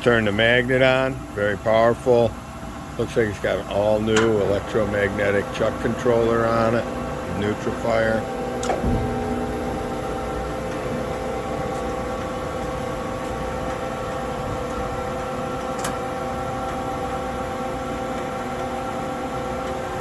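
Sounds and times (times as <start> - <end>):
grinder machine hum: 0.0 - 20.0.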